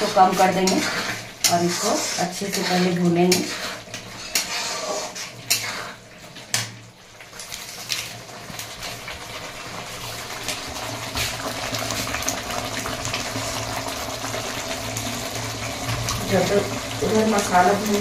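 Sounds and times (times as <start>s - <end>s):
masala bubbling and sizzling: 0.0s - 18.0s.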